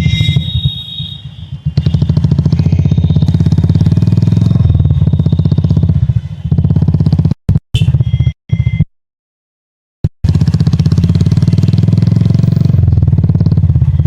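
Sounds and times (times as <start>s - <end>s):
motorcycle engine running: 0.0s - 8.3s, 10.2s - 14.0s.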